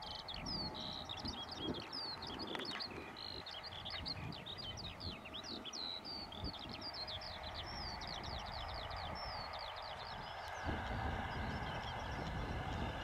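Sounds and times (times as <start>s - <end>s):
distant tractor and baler hum: 0.0s - 13.0s
small birds chirping: 0.0s - 13.0s.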